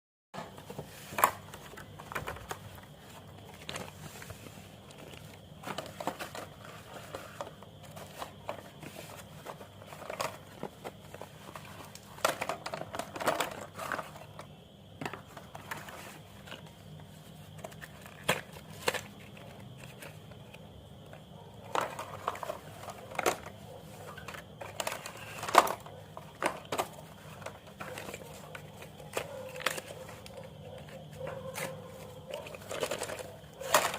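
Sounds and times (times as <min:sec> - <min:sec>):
clicks and sharp cracks of pencils: 0:04.8 - 0:33.9.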